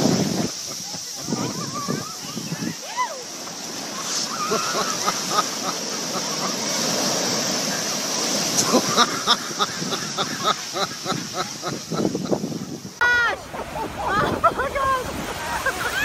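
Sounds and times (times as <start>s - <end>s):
waves breaking on shore: 0.0s - 16.0s.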